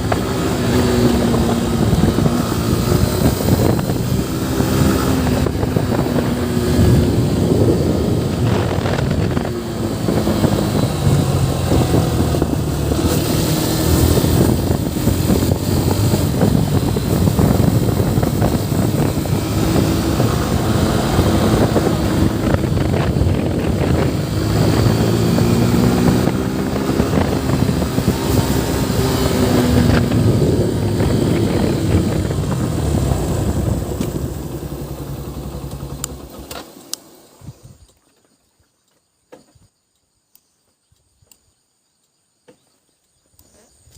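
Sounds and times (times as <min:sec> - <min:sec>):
wind rushing over microphone: 0:00.0 - 0:36.4
motorcycle engine running: 0:00.0 - 0:36.7.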